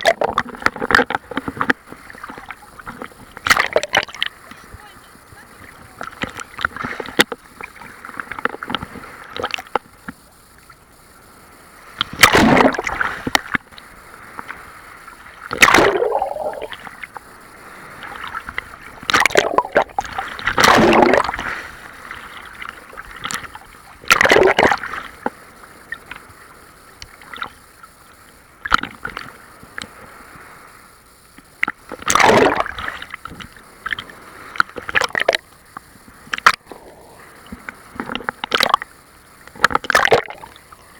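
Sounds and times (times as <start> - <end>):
crackling water splashes: 0.0 - 40.9
sea waves breaking: 0.0 - 40.9.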